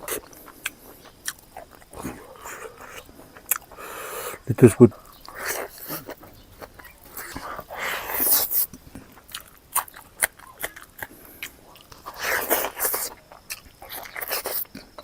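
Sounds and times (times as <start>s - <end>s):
mouth clicks: 0.0s - 15.0s
person chewing with crunches: 0.0s - 15.0s.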